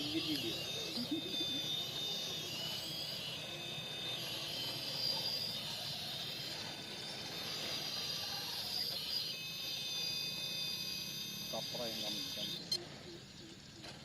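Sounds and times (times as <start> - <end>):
electric motor and gears whining: 0.0 - 14.0.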